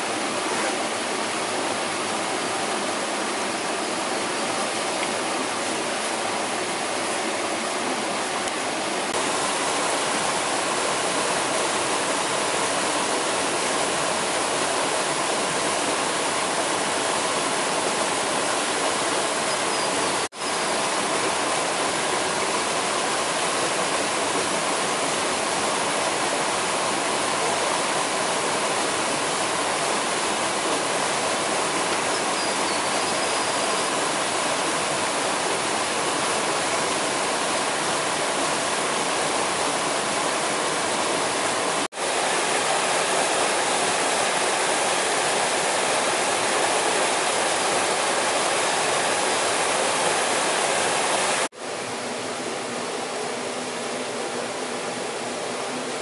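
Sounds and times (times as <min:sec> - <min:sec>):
rushing water: 0:00.0 - 0:56.0.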